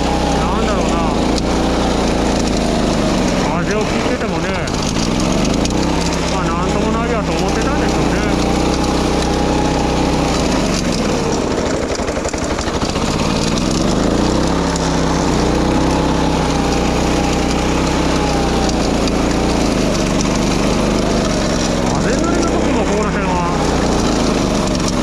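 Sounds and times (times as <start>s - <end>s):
mower engine running: 0.0s - 25.0s.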